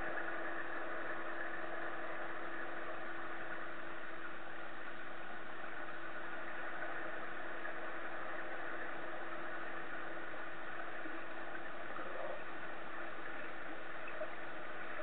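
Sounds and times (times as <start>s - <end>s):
underwater mechanical hum: 0.0s - 15.0s.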